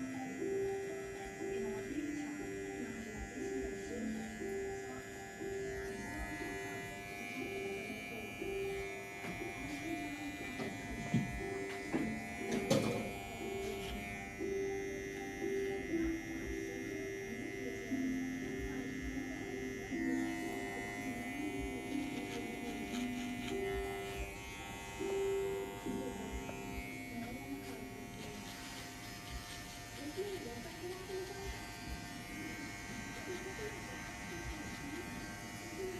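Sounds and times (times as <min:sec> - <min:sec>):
background music: 0:00.0 - 0:33.2
electric hair clippers whining: 0:00.0 - 0:35.9.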